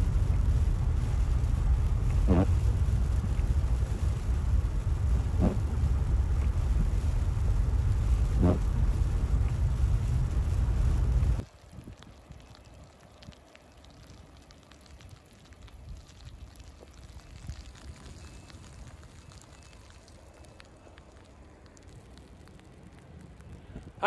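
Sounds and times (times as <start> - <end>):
vehicle tyres and engine rumble: 0.0 - 24.0.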